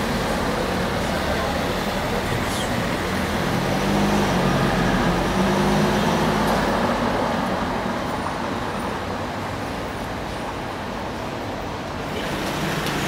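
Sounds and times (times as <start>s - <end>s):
cars driving over cobblestones: 0.0s - 13.0s.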